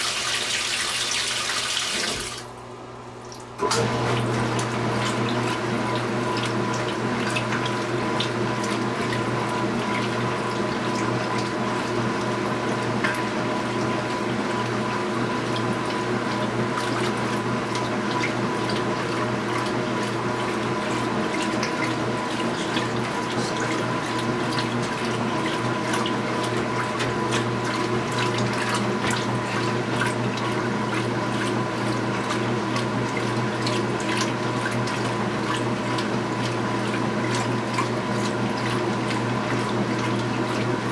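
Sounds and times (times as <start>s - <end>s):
washing machine motor hum: 0.0s - 40.9s
water splashing in washing machine: 0.0s - 40.9s.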